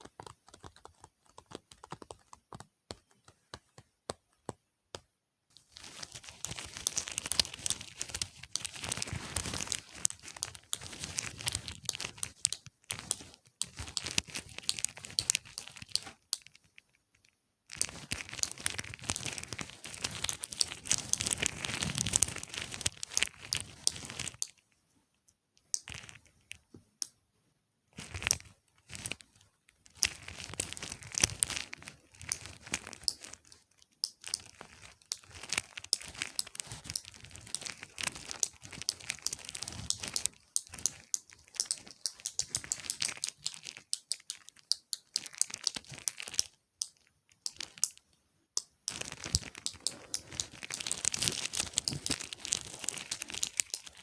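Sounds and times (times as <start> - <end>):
crackly clicks and scratches: 0.0 - 27.2, 27.9 - 54.0.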